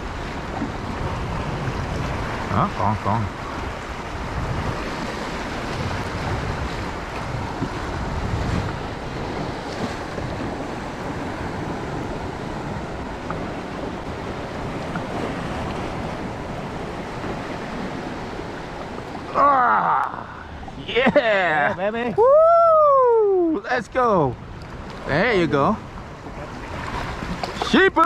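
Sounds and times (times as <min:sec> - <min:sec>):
water washing and lapping: 0:00.0 - 0:22.4, 0:23.0 - 0:28.0
wind buffeting microphone: 0:00.0 - 0:28.0.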